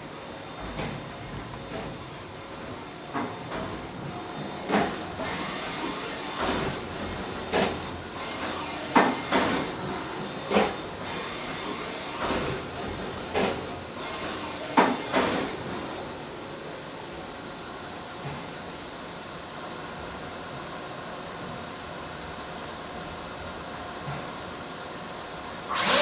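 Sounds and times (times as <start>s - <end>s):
machine hiss with high whine: 2.2s - 26.0s.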